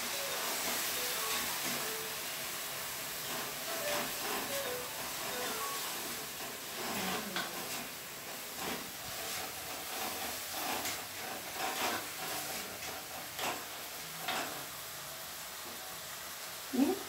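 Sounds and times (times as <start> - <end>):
onion and tomato sizzling in oil: 0.0 - 17.0
spatula scraping across pan: 0.1 - 15.8.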